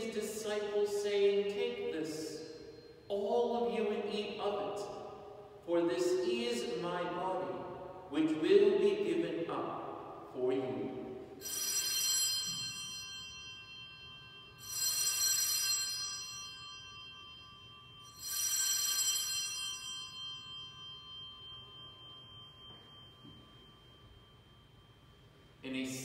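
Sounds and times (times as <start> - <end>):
altar bells ringing: 0.0 - 8.1, 10.0 - 26.0.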